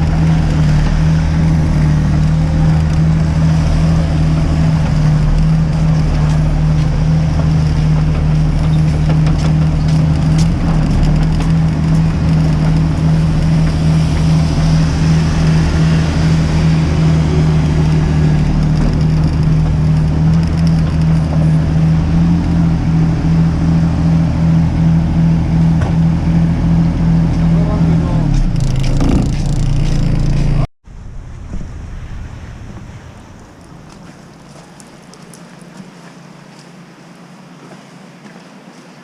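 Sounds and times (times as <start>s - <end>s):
excavator diesel engine running: 0.0s - 37.3s.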